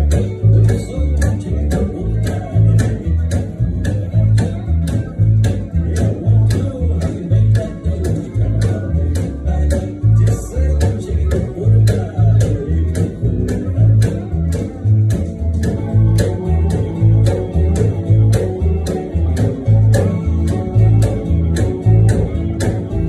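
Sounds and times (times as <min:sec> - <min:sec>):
guitar: 0:00.0 - 0:23.0
plucked upright bass: 0:00.0 - 0:23.0
sharp clicks on a beat: 0:00.0 - 0:23.0.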